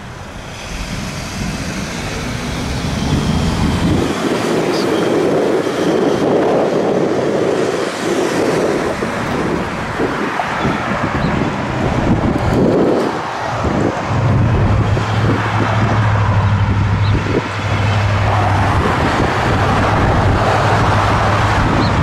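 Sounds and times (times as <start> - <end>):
heavy vehicle passing: 0.0 - 22.0.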